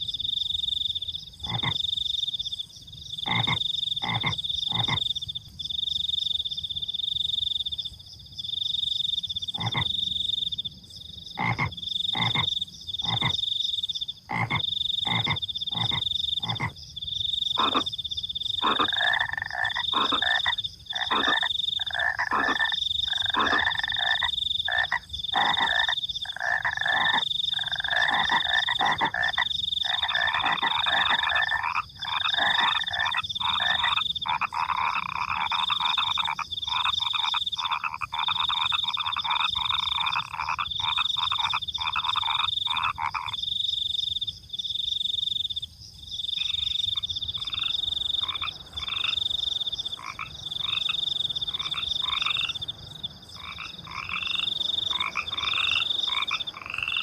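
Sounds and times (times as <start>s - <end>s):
crickets trilling: 0.0s - 57.0s
frogs croaking: 0.0s - 57.0s.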